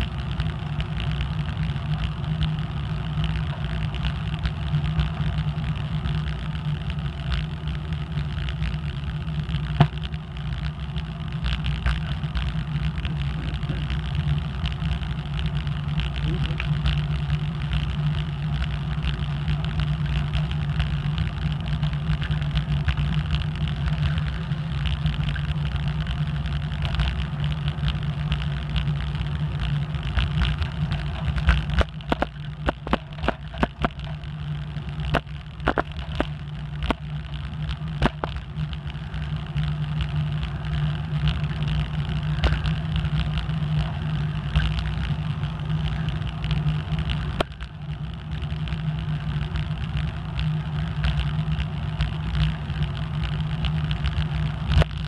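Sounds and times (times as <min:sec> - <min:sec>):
bicycle tyres rumbling on asphalt: 0:00.0 - 0:55.0
wheels knocking and rattling: 0:00.0 - 0:55.0.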